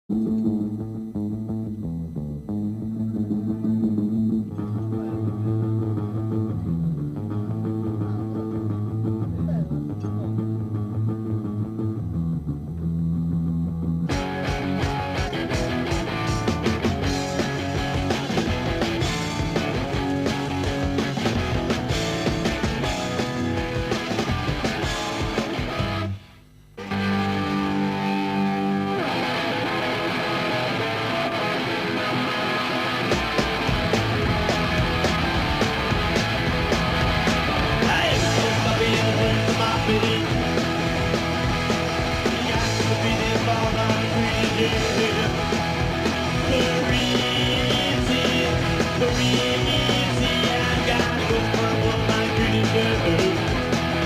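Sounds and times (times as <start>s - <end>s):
bass and guitar music: 0.1s - 54.0s.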